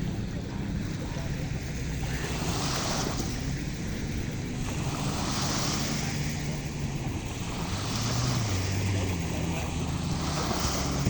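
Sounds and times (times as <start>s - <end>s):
sea waves washing: 0.0s - 11.0s.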